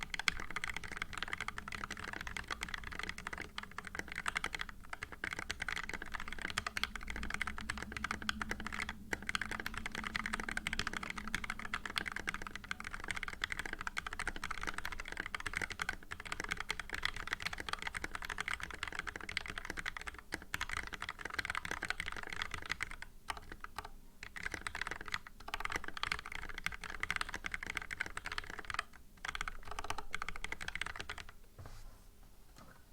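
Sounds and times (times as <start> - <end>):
mechanical keyboard typing: 0.0 - 31.4.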